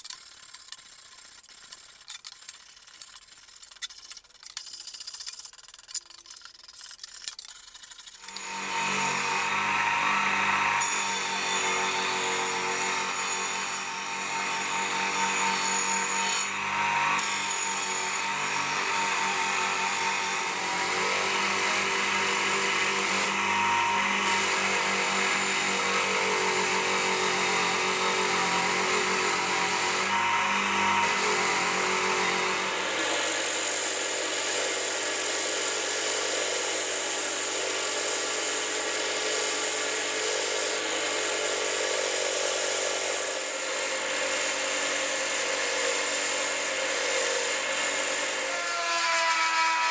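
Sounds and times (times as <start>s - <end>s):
power tool grinding metal: 8.2s - 49.9s.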